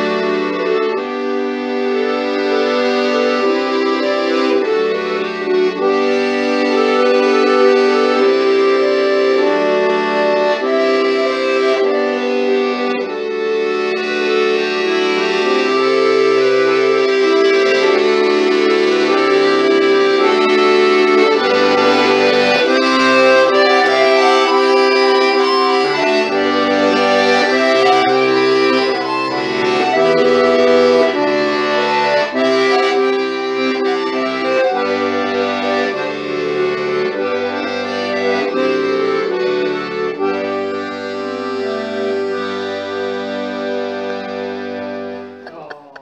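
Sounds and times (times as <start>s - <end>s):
two accordions playing a tune: 0.0s - 46.0s.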